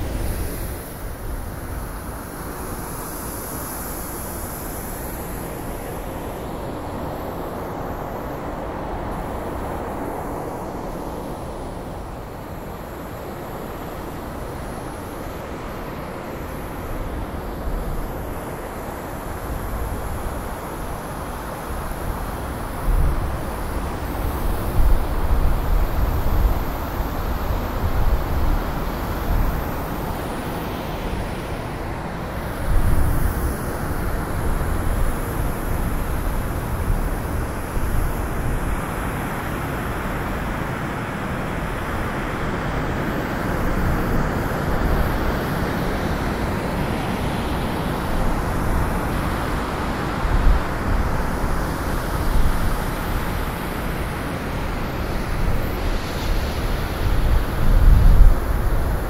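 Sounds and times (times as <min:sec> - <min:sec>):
gusting wind: 0:00.0 - 0:59.0.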